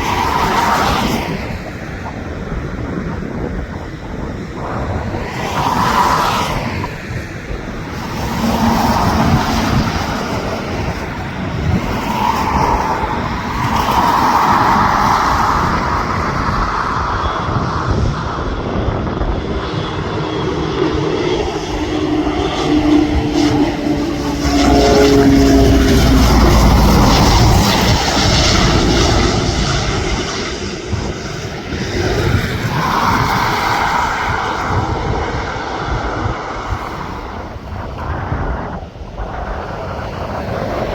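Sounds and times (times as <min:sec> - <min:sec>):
airliner engines passing: 0:00.0 - 0:40.9
wind gusts on microphone: 0:00.0 - 0:40.9.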